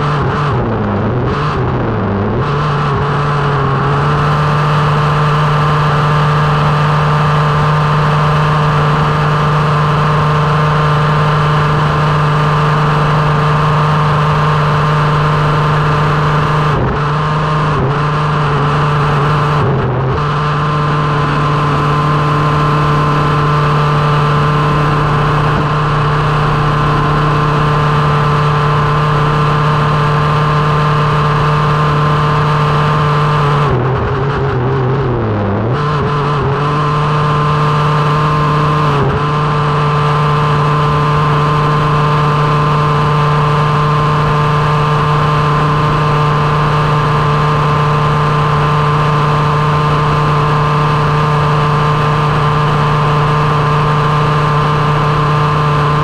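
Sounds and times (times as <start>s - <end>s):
small two-stroke engine revving: 0.0s - 56.0s.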